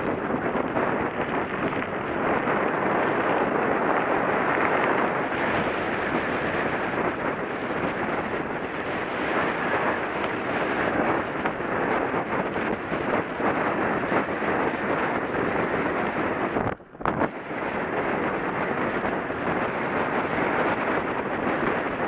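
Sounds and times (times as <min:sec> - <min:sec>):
bike tyres on gravel: 0:00.0 - 0:22.0
wind on microphone: 0:00.0 - 0:22.0.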